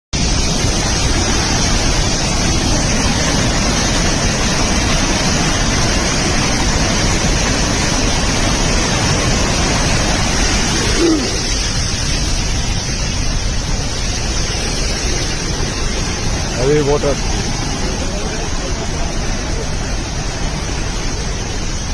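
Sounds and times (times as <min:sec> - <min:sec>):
water rushing through spillway: 0:00.2 - 0:21.9.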